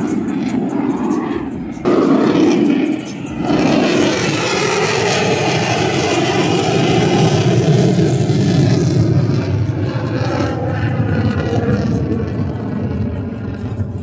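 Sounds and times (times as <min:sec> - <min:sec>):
airplane engine noise: 0:00.0 - 0:14.0
low rumble: 0:00.0 - 0:14.0.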